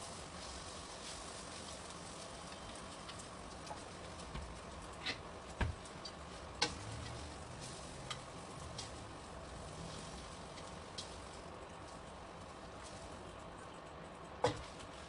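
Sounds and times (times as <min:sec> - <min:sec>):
egg sizzling in a pan: 0:00.0 - 0:13.4.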